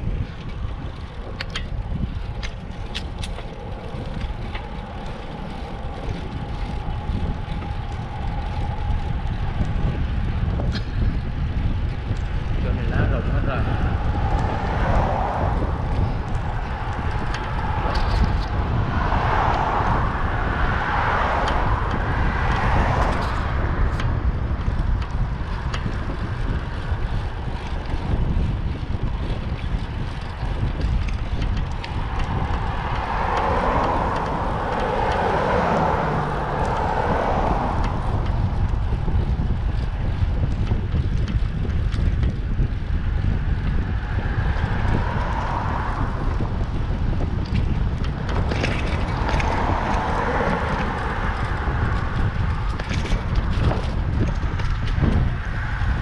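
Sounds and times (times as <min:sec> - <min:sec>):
passing car tyre noise: 0:00.0 - 0:56.0
wind buffeting microphone: 0:00.0 - 0:56.0.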